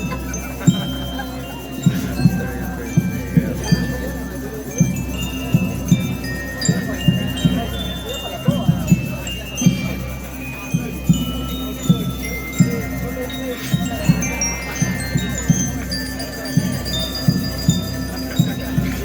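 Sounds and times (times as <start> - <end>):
bell lyres chiming a tune: 0.0 - 19.0
low drum beats: 0.0 - 19.0.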